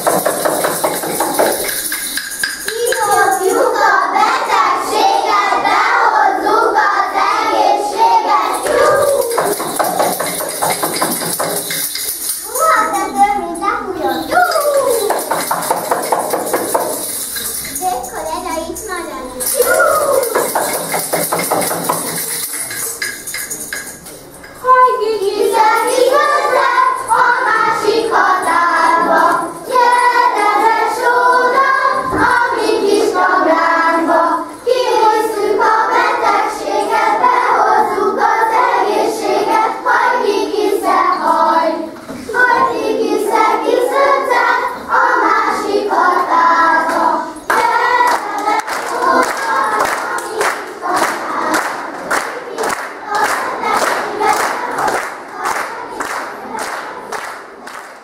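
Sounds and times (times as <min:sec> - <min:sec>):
children singing a folk song: 0:00.0 - 0:17.4, 0:24.6 - 0:57.7.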